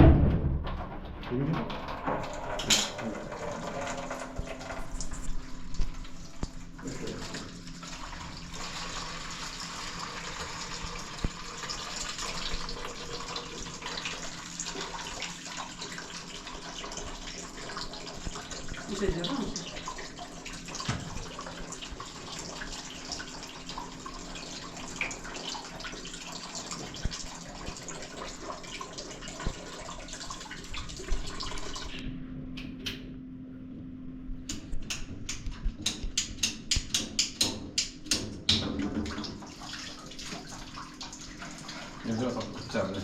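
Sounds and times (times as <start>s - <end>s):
low steady hum: 0.0s - 43.0s
water running from a tap: 1.7s - 32.0s, 36.1s - 43.0s.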